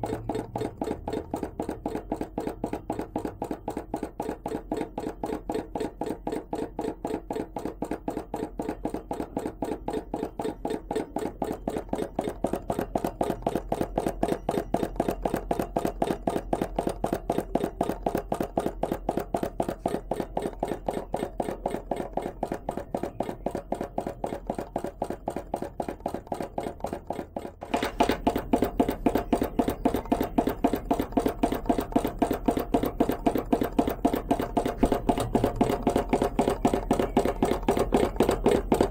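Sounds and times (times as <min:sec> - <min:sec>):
small engine clicking: 0:00.0 - 0:38.9.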